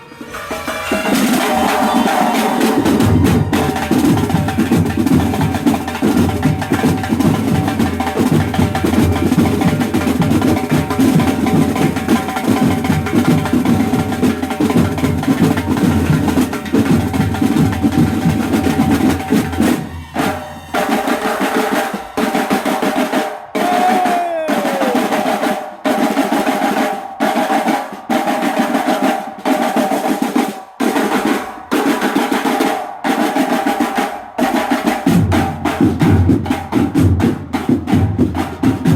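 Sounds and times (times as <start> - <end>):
snare drums rolling: 0.1 - 38.9.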